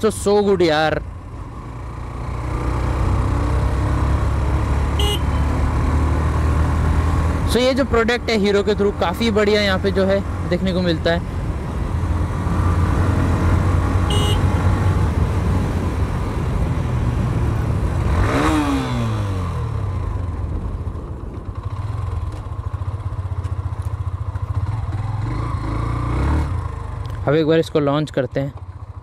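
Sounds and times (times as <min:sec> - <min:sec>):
motorcycle engine running: 0:00.0 - 0:27.4, 0:28.5 - 0:29.0.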